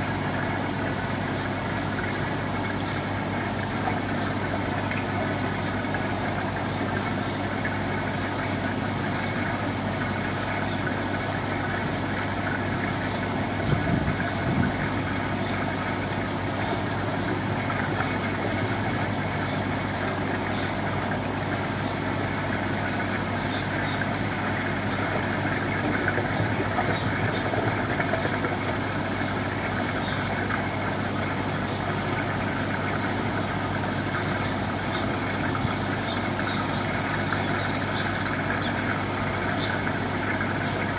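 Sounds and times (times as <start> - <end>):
engine idling with low hum: 0.0 - 40.9.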